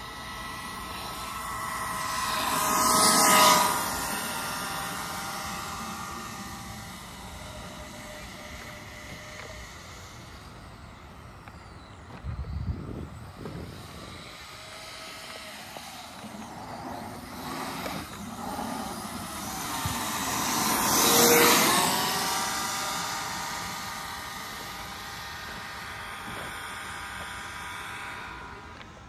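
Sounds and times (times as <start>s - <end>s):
rc car motor whining: 0.0s - 29.0s.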